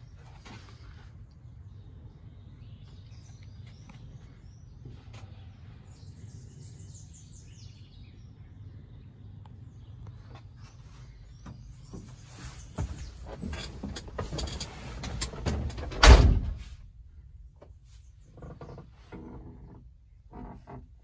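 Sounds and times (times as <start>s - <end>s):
birds chirping: 0.0s - 16.2s, 17.1s - 20.8s
low background hum: 0.0s - 21.0s.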